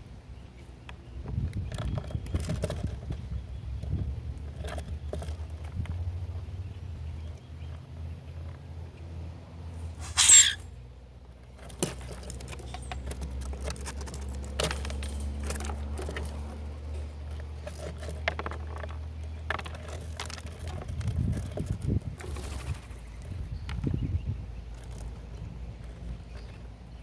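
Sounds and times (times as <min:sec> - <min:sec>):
birds tapping and scratching: 0:00.2 - 0:27.0.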